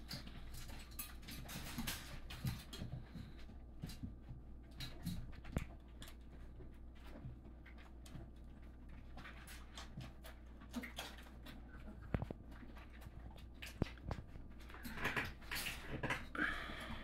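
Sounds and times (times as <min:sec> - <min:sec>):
puppies lapping: 0:00.0 - 0:17.0.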